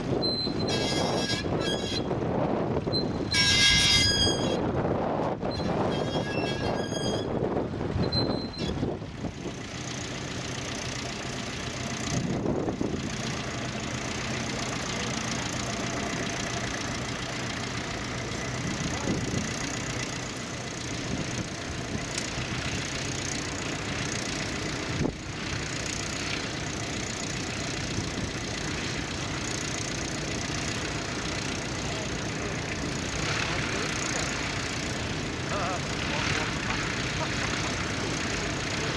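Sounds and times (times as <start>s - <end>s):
tractor engine under load: 0.0s - 38.9s.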